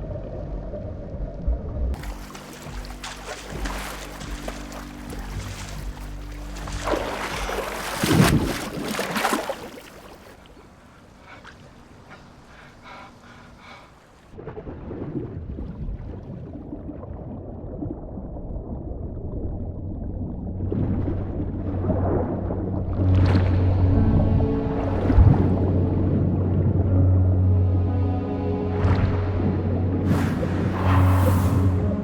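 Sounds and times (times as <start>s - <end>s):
muffled low underwater rumble: 0.0s - 9.0s, 10.1s - 32.0s
water splashing and churning: 2.0s - 32.0s.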